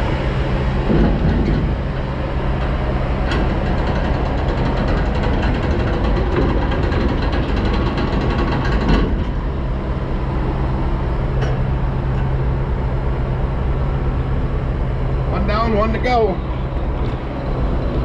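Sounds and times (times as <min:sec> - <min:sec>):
truck and machinery humming: 0:00.0 - 0:18.0.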